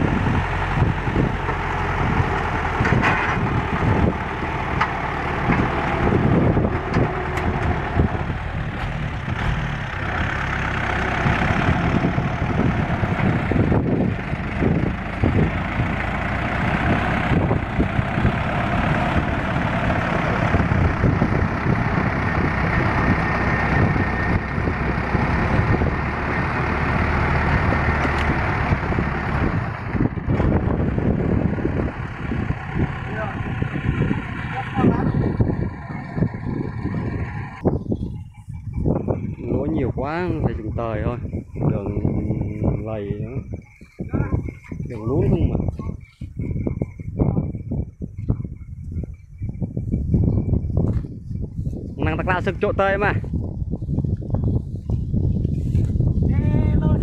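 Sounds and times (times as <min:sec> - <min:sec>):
heavy vehicle engine rumbling: 0:00.0 - 0:57.0.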